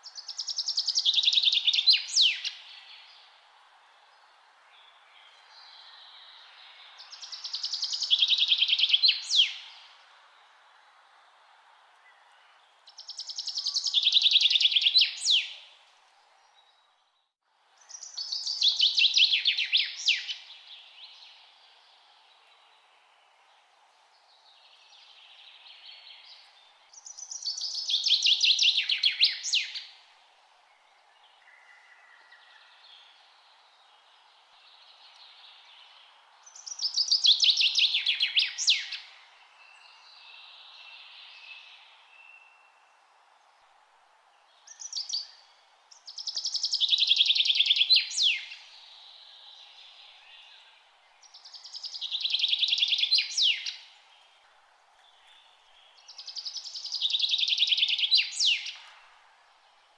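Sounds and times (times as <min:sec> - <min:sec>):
songbird singing: 0:00.0 - 0:59.9
steady background hiss: 0:00.0 - 0:59.9.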